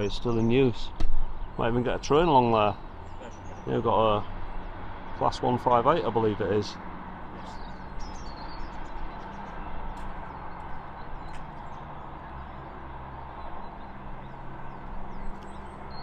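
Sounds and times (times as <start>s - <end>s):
small birds chirping: 0.0s - 16.0s
diesel train engine drone: 2.6s - 16.0s.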